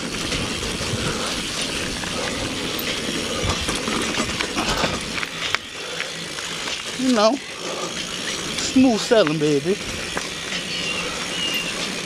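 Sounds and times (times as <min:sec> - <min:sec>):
bike knocks and rattles: 0:00.0 - 0:12.0
bike tyres on dirt trail: 0:00.0 - 0:12.0.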